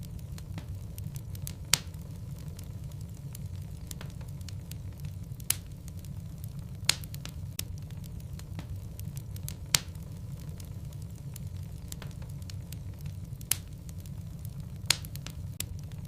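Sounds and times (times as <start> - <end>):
logs crackling and popping: 0.0 - 16.0
low rumble of fire: 0.0 - 16.0.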